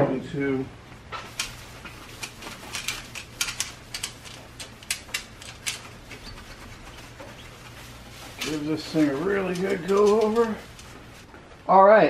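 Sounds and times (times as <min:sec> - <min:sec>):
rag rubbing chrome: 0:01.2 - 0:11.2.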